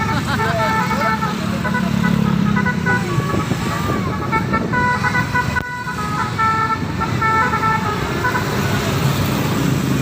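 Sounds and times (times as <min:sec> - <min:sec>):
musical air horns playing tune: 0:00.0 - 0:09.0
traffic rumble: 0:00.0 - 0:10.0.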